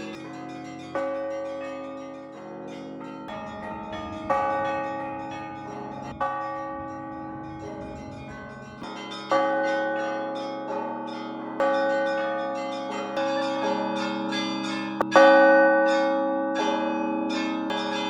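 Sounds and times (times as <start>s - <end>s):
heavy bell strokes: 0.0s - 15.4s
small bells chiming: 0.0s - 18.0s.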